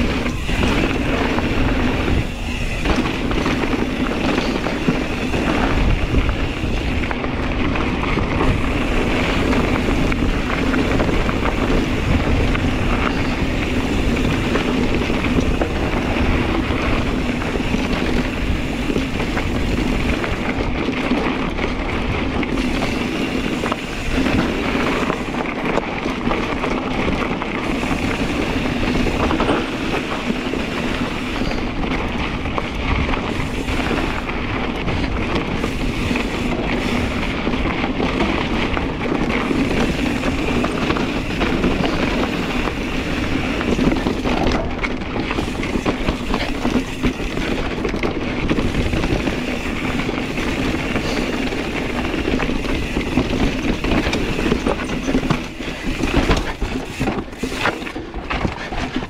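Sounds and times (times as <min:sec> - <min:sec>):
bike rattling: 0:00.0 - 0:59.0
bike tyres rolling over dirt: 0:00.0 - 0:59.0
wind noise on microphone: 0:00.0 - 0:59.0.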